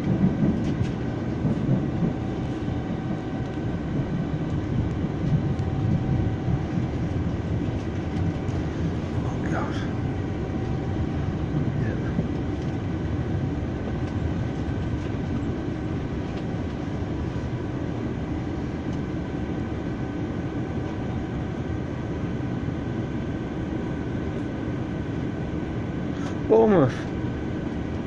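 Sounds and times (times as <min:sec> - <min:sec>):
train rumbling: 0:00.0 - 0:28.0
faint steady whine: 0:01.3 - 0:28.0.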